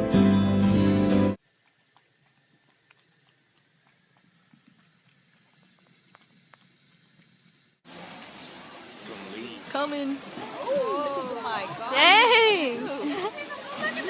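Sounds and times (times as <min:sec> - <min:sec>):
faint steady hiss: 0:01.4 - 0:14.0.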